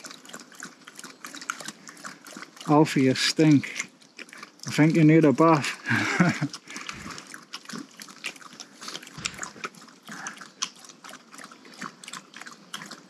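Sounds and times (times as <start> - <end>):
dog lapping water: 0.0 - 13.0.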